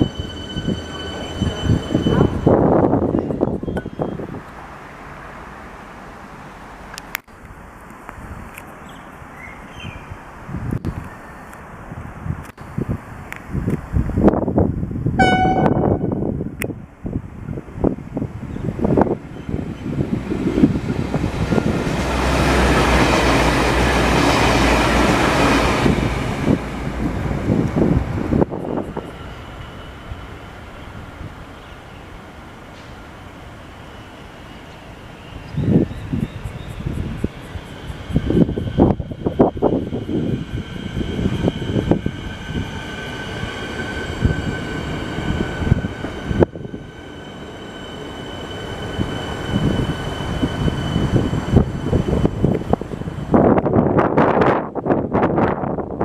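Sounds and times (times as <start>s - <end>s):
train passing on rails: 0.0s - 56.0s.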